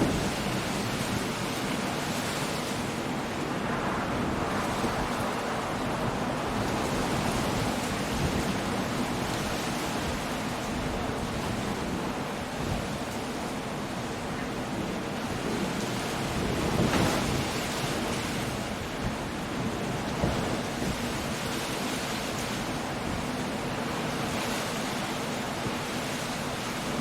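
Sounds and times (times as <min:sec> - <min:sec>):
rain: 0:00.0 - 0:27.0
waves breaking on shore: 0:00.0 - 0:27.0
wind: 0:00.0 - 0:27.0.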